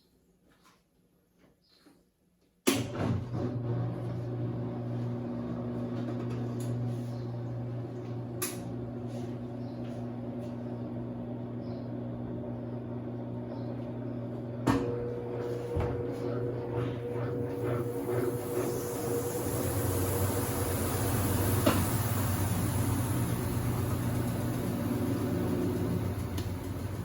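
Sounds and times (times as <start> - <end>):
washing machine motor hum: 2.8 - 27.0.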